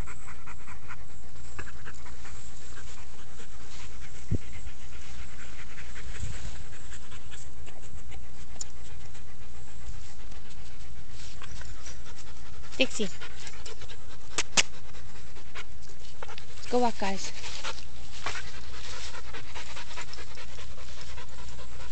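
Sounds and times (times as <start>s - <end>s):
dog panting: 0.0s - 21.9s.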